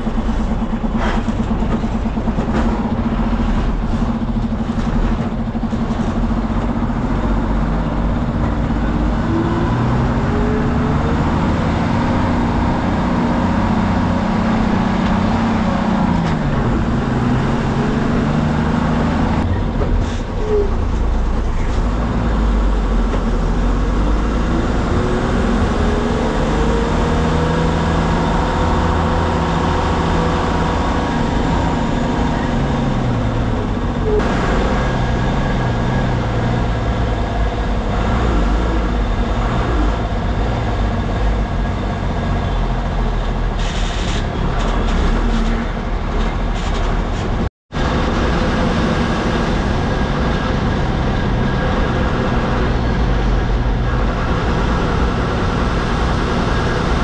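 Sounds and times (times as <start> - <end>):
bus diesel engine running: 0.0 - 57.0
road rumble: 0.0 - 57.0.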